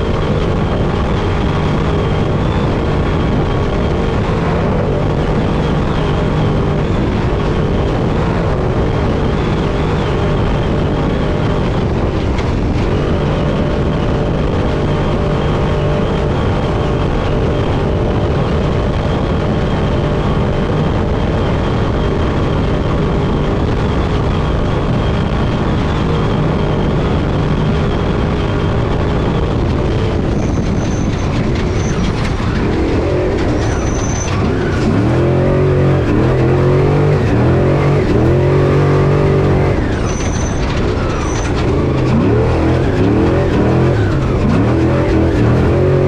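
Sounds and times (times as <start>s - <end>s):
rattle from rough terrain: 0.0s - 46.0s
truck engine under load: 0.0s - 46.0s.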